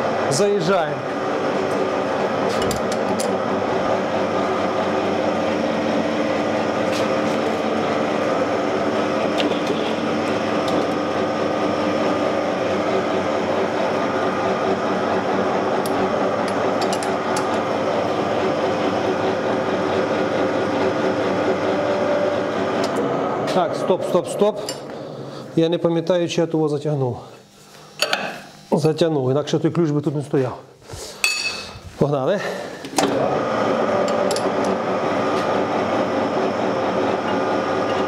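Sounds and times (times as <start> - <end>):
machine gear train whine: 0.0 - 26.5, 32.9 - 38.0.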